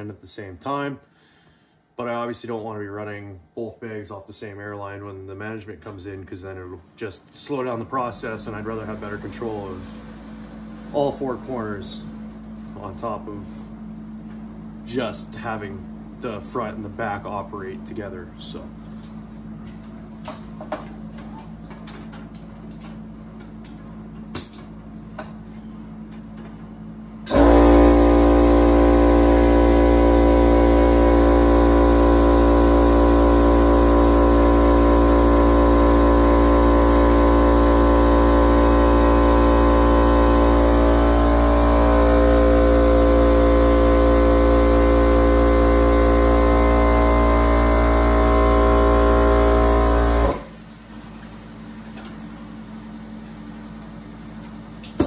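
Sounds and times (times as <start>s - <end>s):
air compressor humming: 7.9s - 55.0s.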